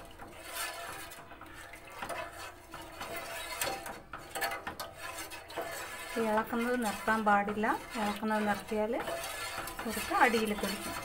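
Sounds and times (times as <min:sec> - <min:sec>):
spoon scraping steel pot: 0:00.0 - 0:11.0.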